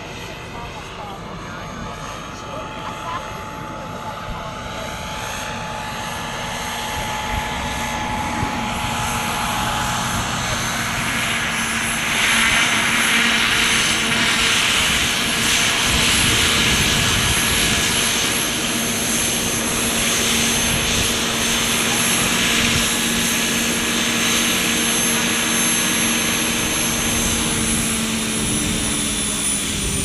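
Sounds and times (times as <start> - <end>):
helicopter rotors rushing: 0.0 - 30.0
model helicopter whine: 0.0 - 30.0.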